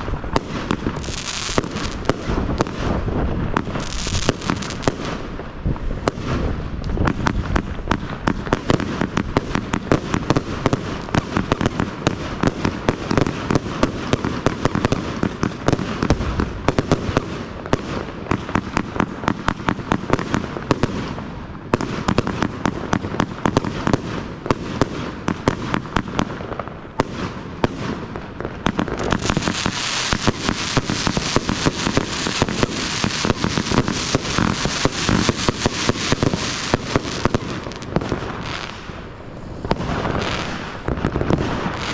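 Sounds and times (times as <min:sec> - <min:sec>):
fireworks barrage: 0:00.0 - 0:41.9.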